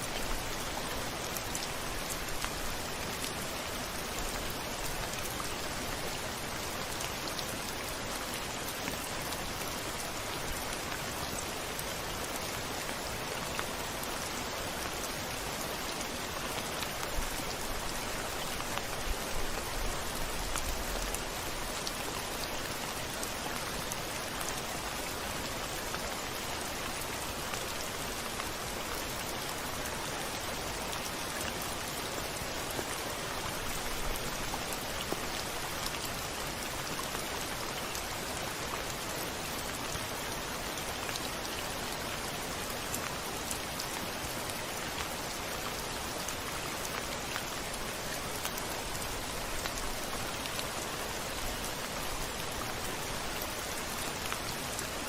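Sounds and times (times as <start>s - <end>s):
rain pattering on a window: 0.1s - 55.0s.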